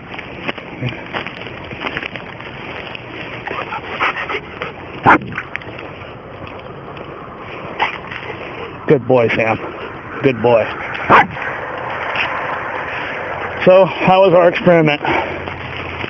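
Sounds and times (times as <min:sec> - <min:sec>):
rustling in dry grass: 0:00.0 - 0:16.0.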